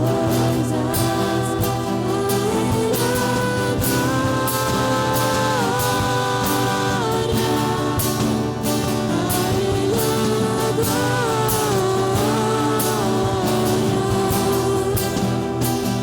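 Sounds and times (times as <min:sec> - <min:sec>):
band playing worship song: 0:00.0 - 0:16.0
voices singing held notes: 0:00.0 - 0:16.0.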